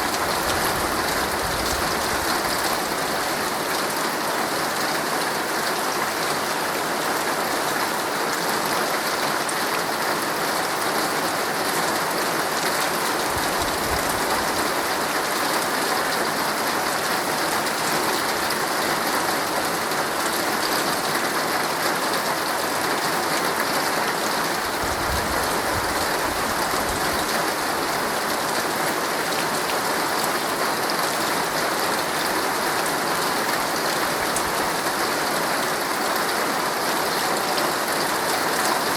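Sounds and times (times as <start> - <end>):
heavy rain on tent fabric: 0.0 - 38.9.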